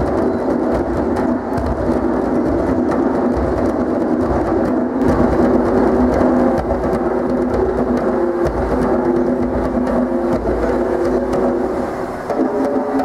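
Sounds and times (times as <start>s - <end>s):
djembe hand drums: 0.0s - 13.0s.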